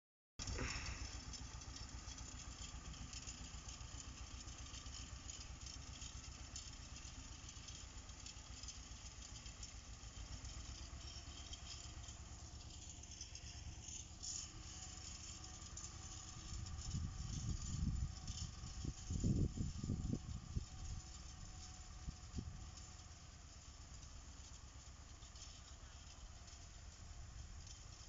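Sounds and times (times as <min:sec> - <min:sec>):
tractor diesel engine chugging: 0:00.4 - 0:28.0.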